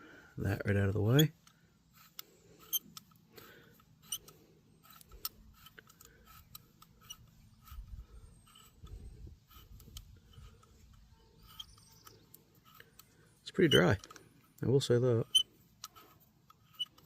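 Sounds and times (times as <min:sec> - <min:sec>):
soft rumble of handling: 0:00.0 - 0:17.0
small tool clicks and ticks: 0:01.2 - 0:17.0.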